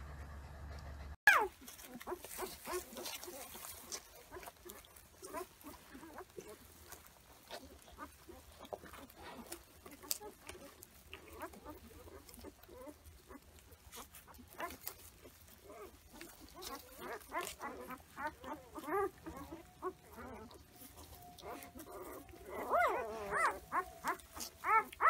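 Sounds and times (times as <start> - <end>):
puppies squeaking and whimpering: 1.3 - 25.0
straw rustling: 1.3 - 25.0.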